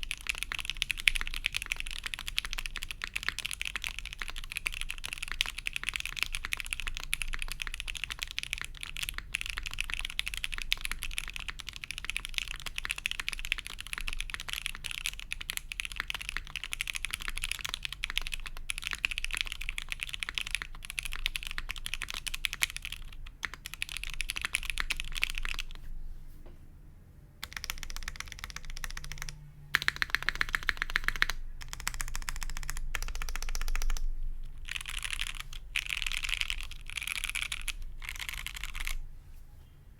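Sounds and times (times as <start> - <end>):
fast typing on mechanical keyboard: 0.0 - 25.8, 27.4 - 39.0.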